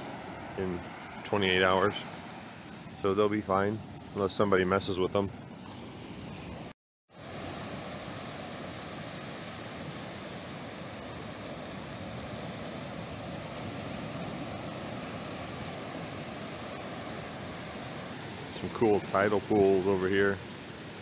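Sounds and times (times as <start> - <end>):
surf waves breaking on beach: 0.0 - 21.0.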